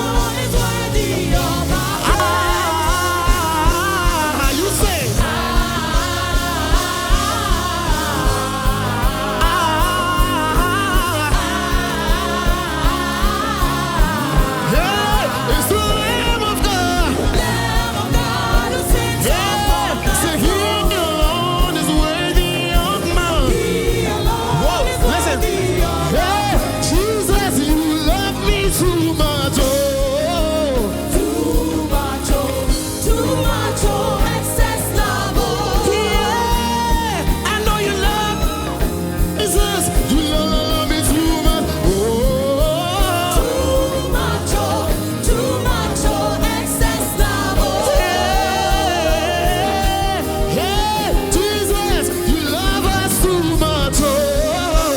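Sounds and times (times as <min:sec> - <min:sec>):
gospel band music: 0:00.0 - 0:54.9
steady drum beat: 0:00.0 - 0:54.9
wordless singing: 0:00.0 - 0:54.9.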